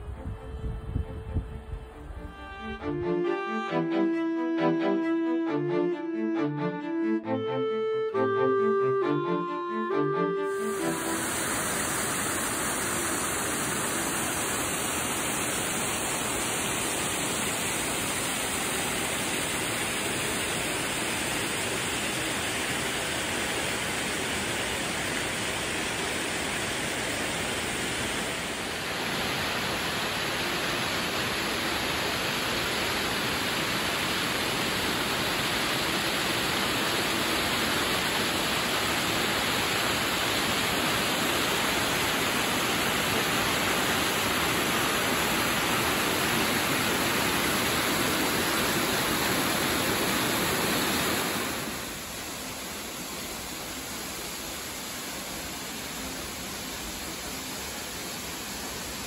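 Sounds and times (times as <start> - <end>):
waterfall rushing water: 2.0 - 59.0.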